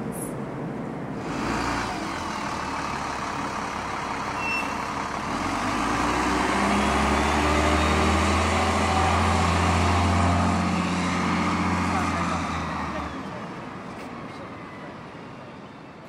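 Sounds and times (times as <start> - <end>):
bus engine accelerating: 0.0 - 16.0.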